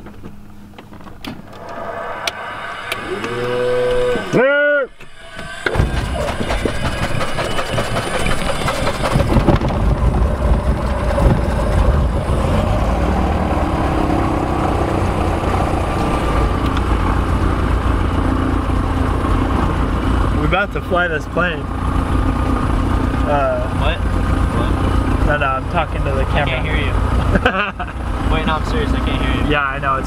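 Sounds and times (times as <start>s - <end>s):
propeller engine drone: 0.0s - 30.0s.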